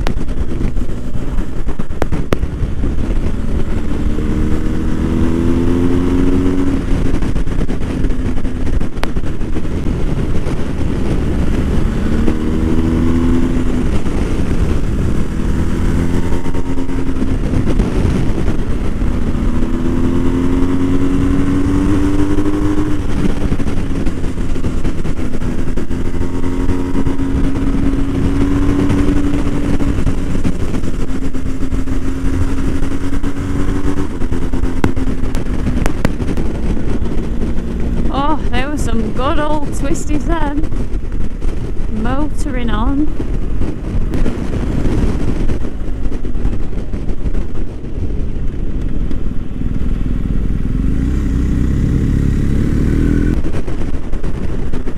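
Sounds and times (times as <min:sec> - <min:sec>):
motorcycle engine accelerating: 0:00.0 - 0:54.9
wind and road noise: 0:00.0 - 0:54.9.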